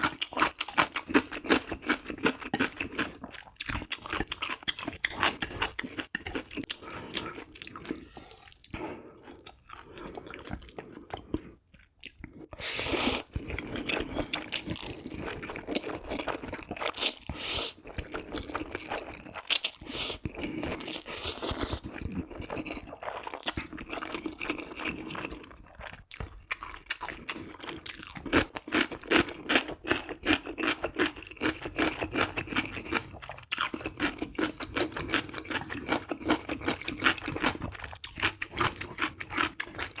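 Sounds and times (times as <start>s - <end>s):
chewing and crunching food: 0.0s - 40.0s.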